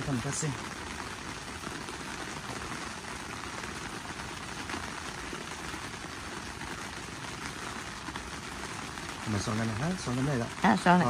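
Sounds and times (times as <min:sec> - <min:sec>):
propane heater hissing: 0:00.0 - 0:11.0.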